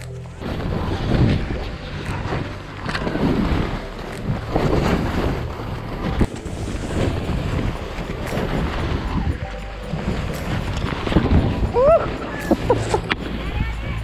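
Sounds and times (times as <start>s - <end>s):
skis swishing through snow: 0.0s - 14.0s
wind buffeting microphone: 0.4s - 14.0s.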